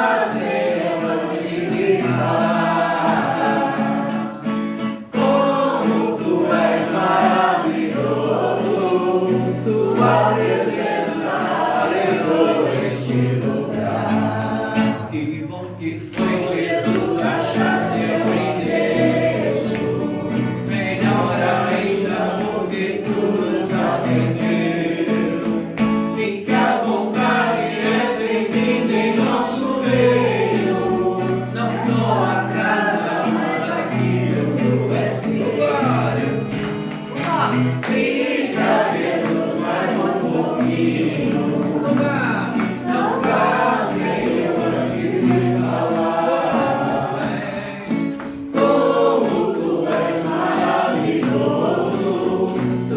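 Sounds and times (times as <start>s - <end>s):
group of voices singing: 0.0s - 52.9s.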